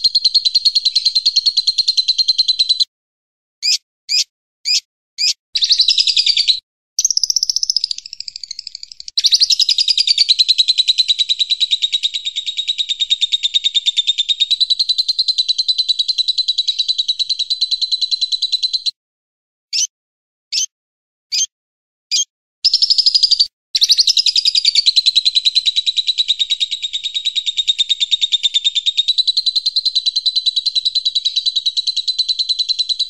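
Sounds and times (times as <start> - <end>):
small songbird singing: 0.0 - 2.9, 3.6 - 19.0, 19.7 - 19.9, 20.5 - 20.7, 21.3 - 21.5, 22.1 - 33.0.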